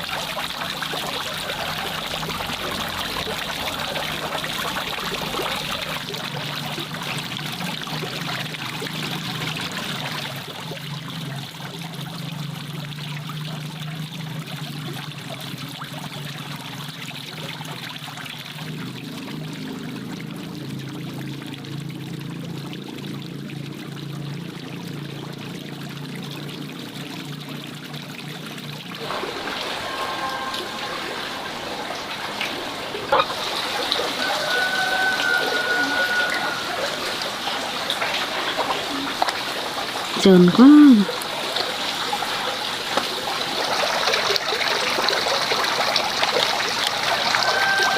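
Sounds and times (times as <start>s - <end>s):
water trickling and pouring: 0.0s - 47.9s.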